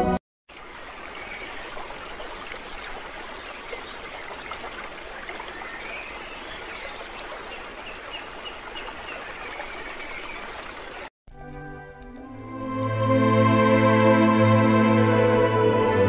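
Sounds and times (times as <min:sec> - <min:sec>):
water trickling and splashing: 0:00.5 - 0:13.4.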